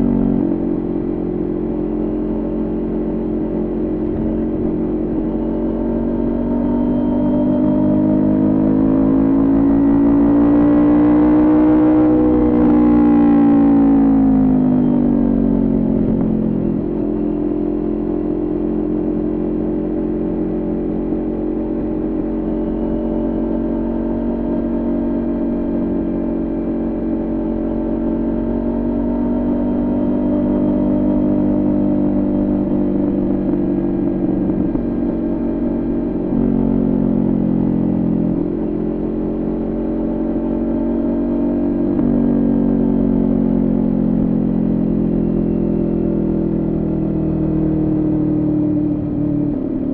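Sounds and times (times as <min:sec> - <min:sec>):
motorcycle engine while riding: 0:00.0 - 0:49.9.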